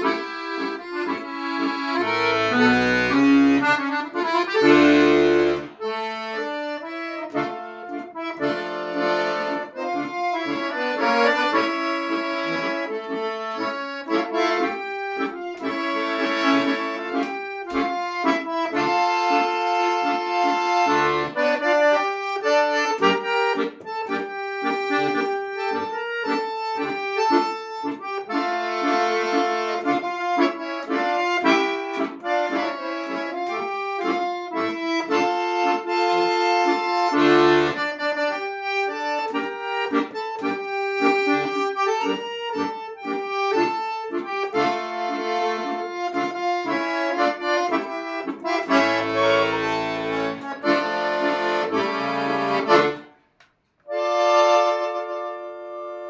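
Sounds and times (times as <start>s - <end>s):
accordion playing tango: 0.0s - 56.0s.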